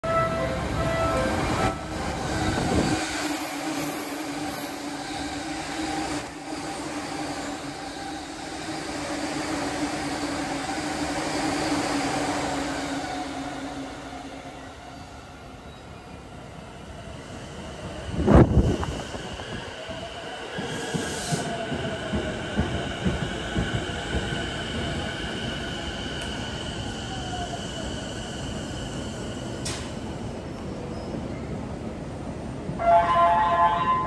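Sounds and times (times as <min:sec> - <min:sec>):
train passing at speed: 0:00.0 - 0:34.0.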